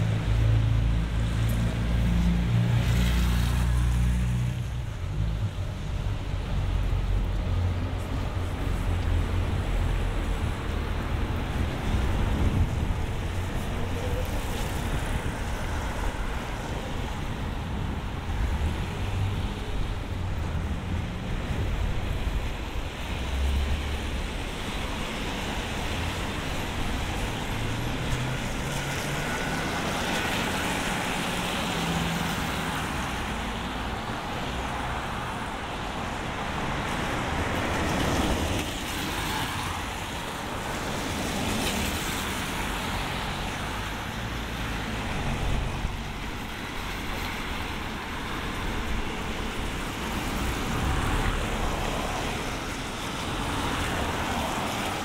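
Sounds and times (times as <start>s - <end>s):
car engines rumbling: 0.0s - 55.0s
tyres hissing on wet road: 0.0s - 55.0s.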